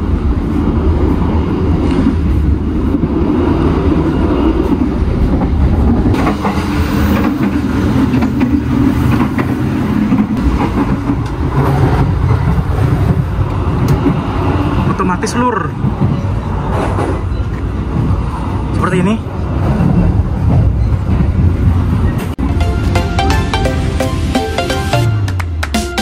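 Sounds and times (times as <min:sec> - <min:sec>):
train wheels rumbling on rails: 0:00.0 - 0:22.8.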